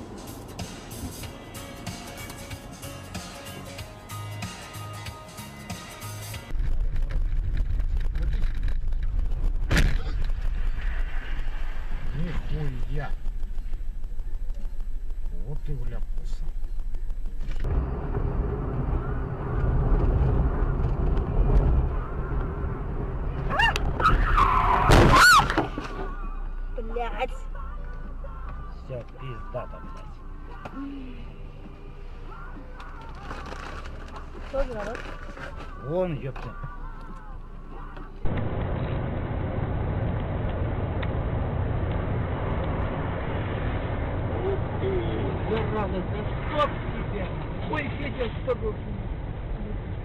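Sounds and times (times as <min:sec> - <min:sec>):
car road and engine rumble: 0:00.0 - 0:50.0.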